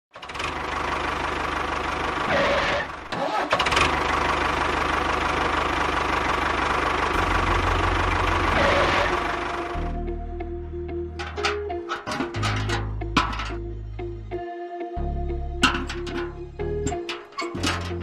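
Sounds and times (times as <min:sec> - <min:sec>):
engine starting clatter: 0:00.1 - 0:09.9, 0:11.2 - 0:13.6, 0:15.6 - 0:18.0
tractor engine chugging: 0:00.1 - 0:10.0, 0:11.2 - 0:14.0, 0:15.6 - 0:18.0.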